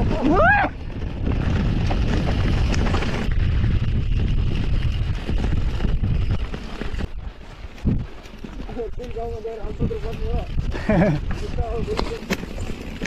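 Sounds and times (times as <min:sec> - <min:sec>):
bike rattling over gravel: 0:00.0 - 0:13.0
wind buffeting microphone: 0:00.0 - 0:13.0.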